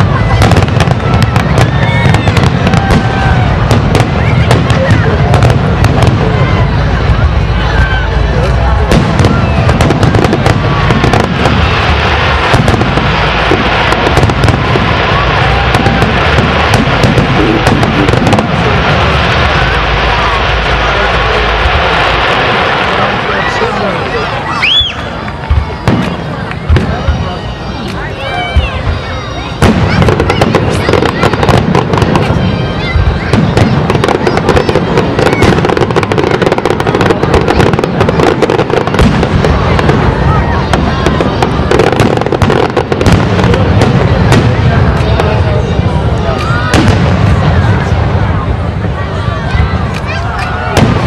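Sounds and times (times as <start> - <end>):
firework booms: 0.0 - 51.0
firework pops and crackles: 0.0 - 51.0.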